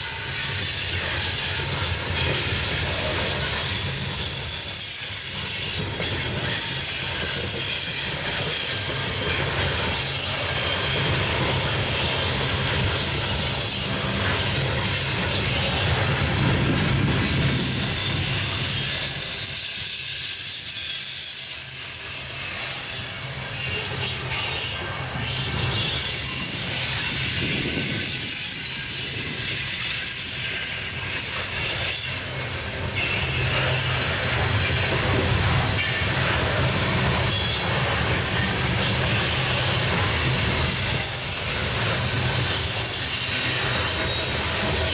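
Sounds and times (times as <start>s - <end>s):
low train rumble: 0.0s - 44.9s
train wheels squealing on rails: 0.0s - 44.9s.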